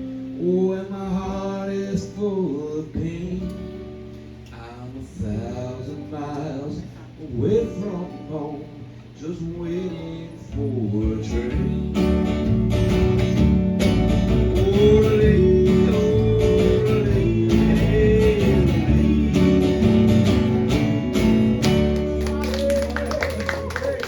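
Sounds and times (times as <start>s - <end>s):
strummed acoustic guitar: 0.0s - 22.4s.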